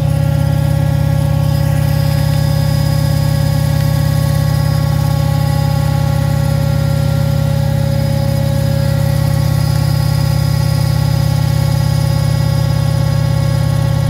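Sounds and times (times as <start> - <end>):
washing machine humming and throbbing: 0.0 - 14.0
whine of steady tones: 0.0 - 14.0.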